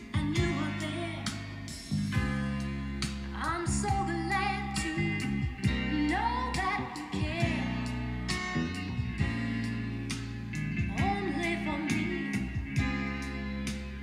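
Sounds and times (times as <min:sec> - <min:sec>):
song with singing and guitar: 0:00.0 - 0:14.0.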